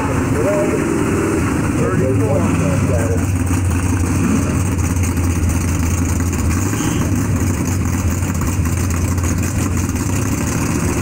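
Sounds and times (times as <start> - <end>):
race car engines idling: 0.0 - 11.0.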